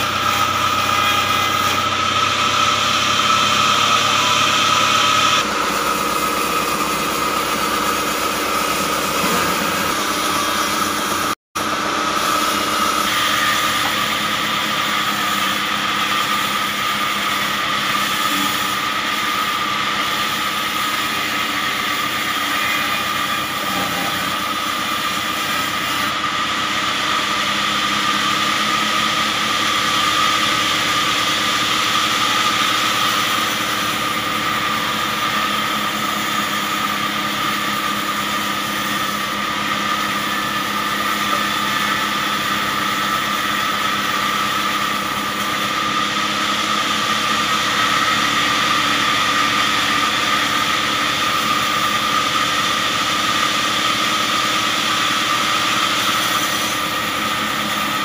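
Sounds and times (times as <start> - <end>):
band sawmill cutting log: 0.0 - 58.0.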